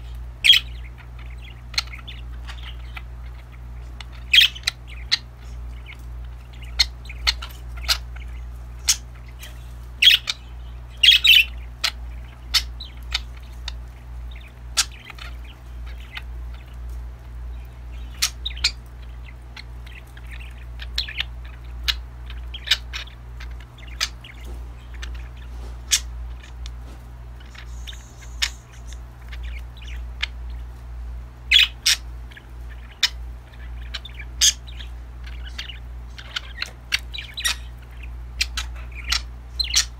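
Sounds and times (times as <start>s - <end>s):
budgies chirping and squawking: 0.0s - 39.9s
steady low hum: 0.0s - 39.9s.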